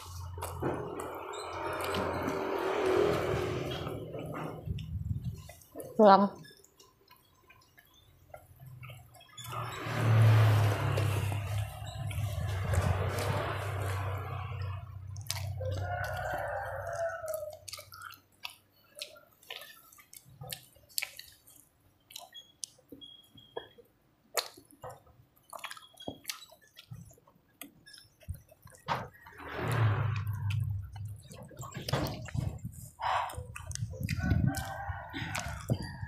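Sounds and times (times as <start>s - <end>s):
person chewing wetly: 0.0s - 36.0s.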